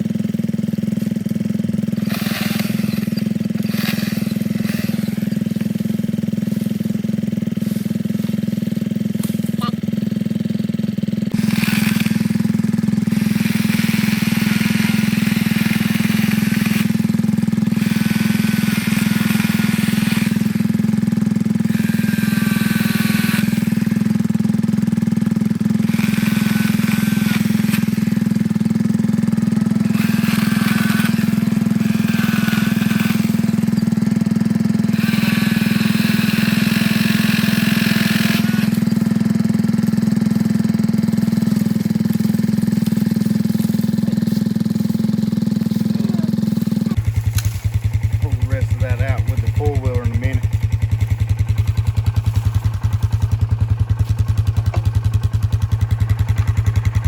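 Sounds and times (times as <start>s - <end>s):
cordless chainsaw motor hum: 0.0s - 57.0s
chainsaw cutting into wood: 0.8s - 9.6s, 11.3s - 57.0s.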